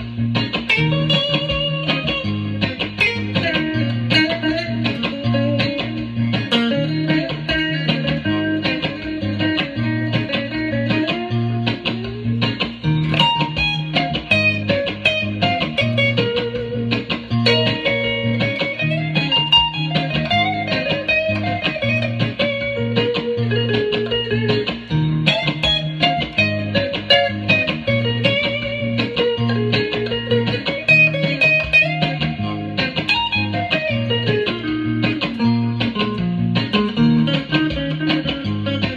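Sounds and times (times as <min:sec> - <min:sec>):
electric guitar melody sliding: 0:00.0 - 0:38.9.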